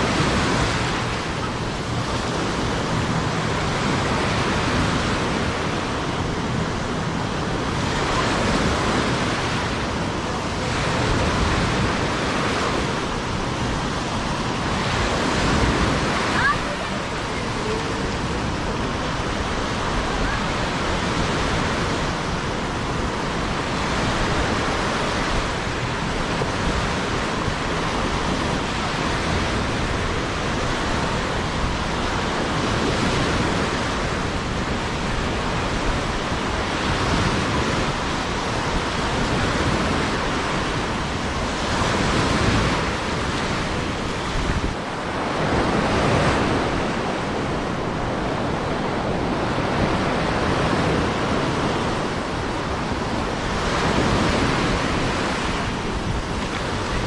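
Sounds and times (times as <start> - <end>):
sea surf washing on shore: 0.0 - 57.0
wind on microphone: 0.0 - 57.0.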